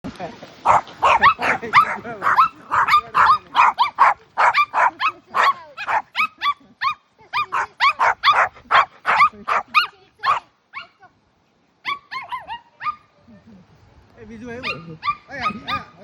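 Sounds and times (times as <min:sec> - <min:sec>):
dogs barking high-pitched: 0:00.6 - 0:11.0, 0:11.8 - 0:13.1, 0:14.6 - 0:16.0.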